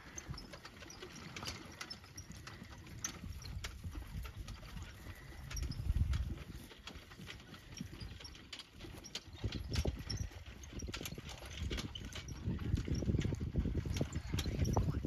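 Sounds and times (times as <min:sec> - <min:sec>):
hooves clip-clopping on turf: 0:00.0 - 0:15.0.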